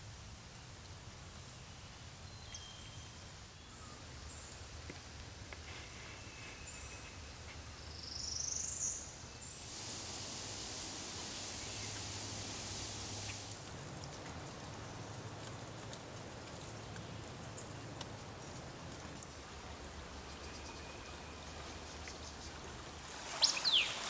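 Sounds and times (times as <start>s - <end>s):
high steady hiss: 0.0s - 24.0s.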